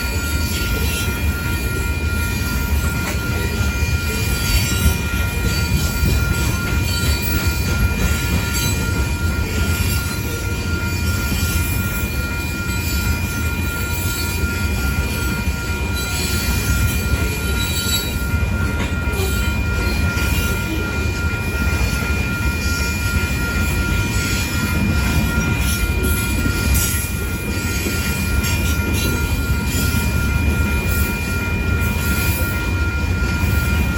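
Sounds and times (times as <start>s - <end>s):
train cars rumbling on rails: 0.0s - 33.9s.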